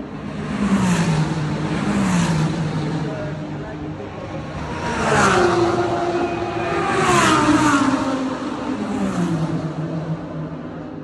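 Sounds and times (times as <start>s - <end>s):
race cars passing at speed: 0.0s - 11.0s.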